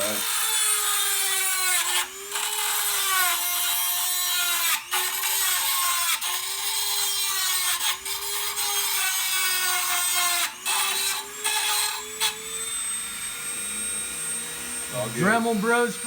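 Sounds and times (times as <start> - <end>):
rotary tool motor whine: 0.0 - 16.0.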